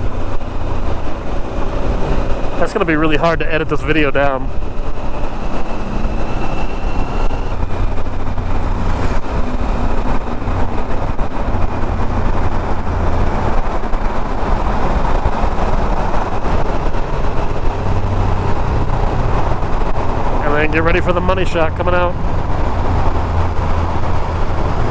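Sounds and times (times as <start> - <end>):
motorcycle engine cruising: 0.0 - 24.9
wind and road noise: 0.0 - 24.9.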